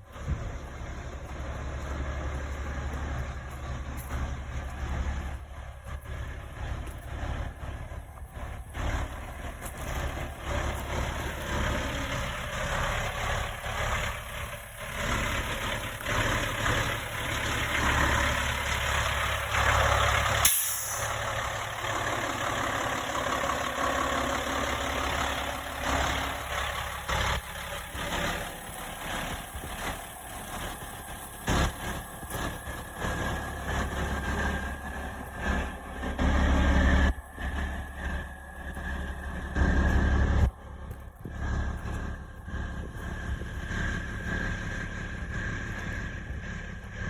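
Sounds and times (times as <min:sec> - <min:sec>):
heavy vehicle engine running: 0:00.0 - 0:47.0.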